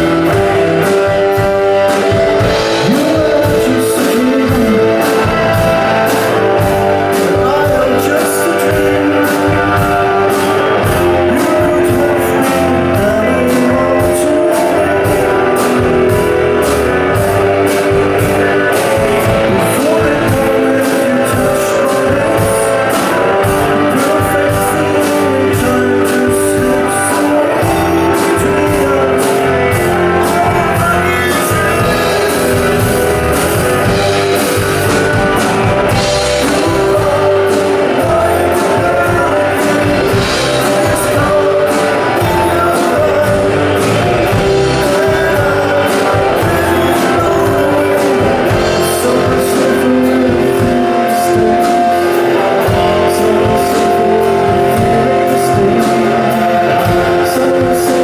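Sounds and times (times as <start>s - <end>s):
drum kit: 0.0s - 58.0s
electric guitars: 0.0s - 58.0s
person singing: 0.0s - 58.0s.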